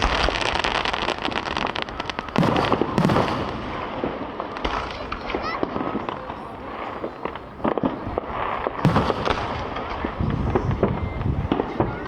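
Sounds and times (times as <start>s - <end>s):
fireworks booms: 0.0s - 12.0s
fireworks crackling and popping: 0.0s - 12.0s.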